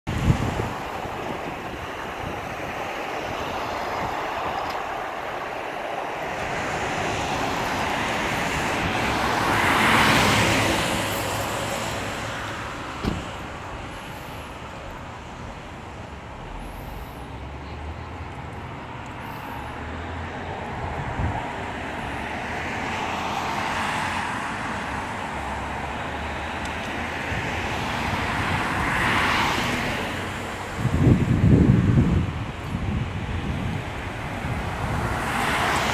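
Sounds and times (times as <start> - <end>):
cars passing: 0.1 - 35.9.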